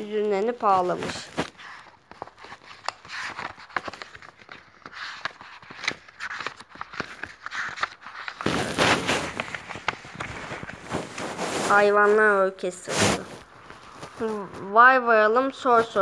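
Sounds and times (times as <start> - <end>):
book pages rustling: 0.0 - 14.7, 15.4 - 16.0.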